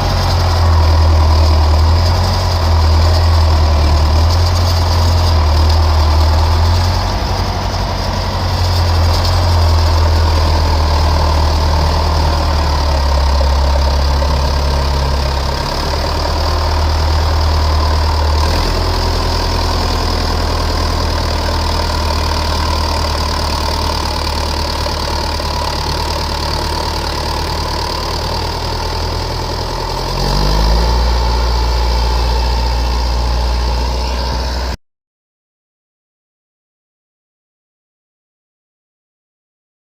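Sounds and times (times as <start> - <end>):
tractor diesel engine running: 0.0 - 34.8.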